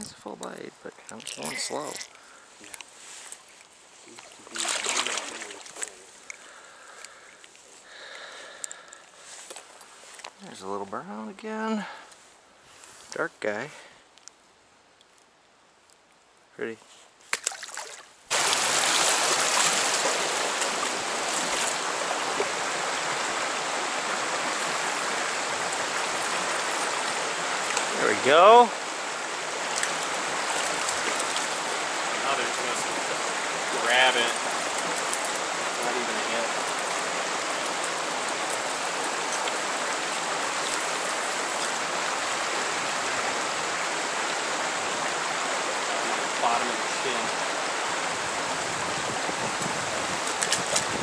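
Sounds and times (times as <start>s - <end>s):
river water rushing: 1.1s - 10.4s, 17.3s - 51.0s.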